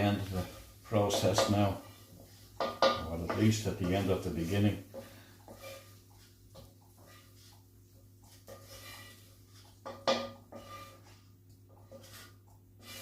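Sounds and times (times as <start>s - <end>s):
pan and utensils scraping: 0.0s - 13.0s.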